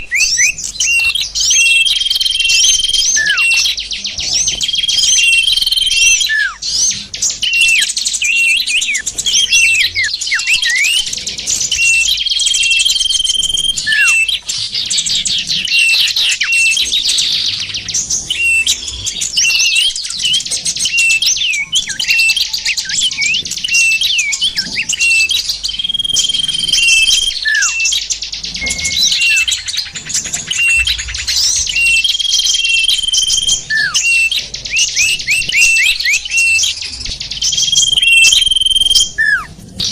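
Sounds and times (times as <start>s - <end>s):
held bird whistle: 0.0s - 39.9s
songbirds chirping: 0.0s - 39.9s.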